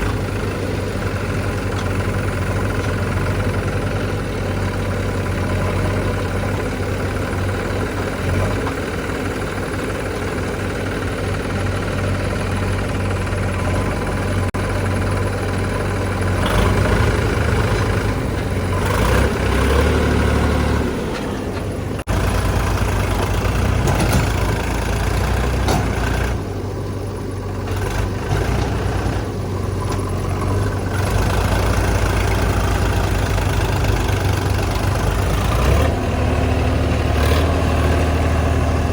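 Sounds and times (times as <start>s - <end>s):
diesel engines revving: 0.0s - 38.9s.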